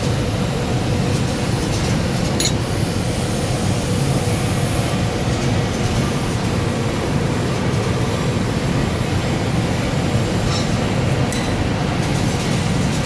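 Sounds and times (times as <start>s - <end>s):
laser cutting machine rumbling: 0.0s - 13.0s.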